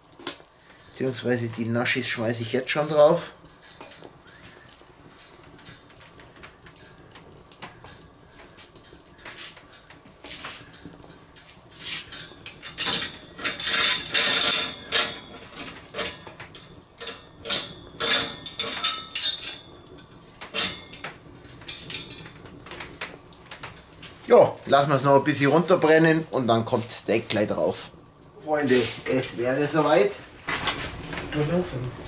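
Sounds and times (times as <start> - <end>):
grill grate and chains clanking: 0.1 - 32.0.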